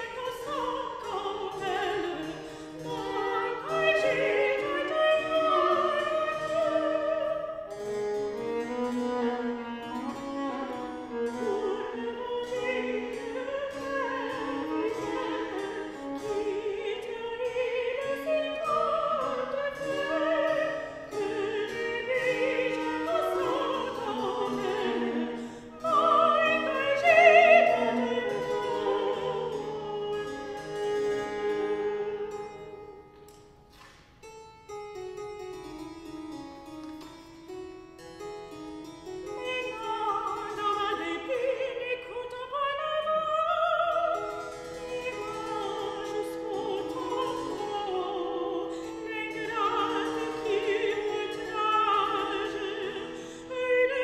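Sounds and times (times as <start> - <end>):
soprano singing: 0.0 - 33.4, 39.1 - 54.0
harpsichord: 0.0 - 42.4, 43.5 - 54.0
viola: 0.0 - 54.0.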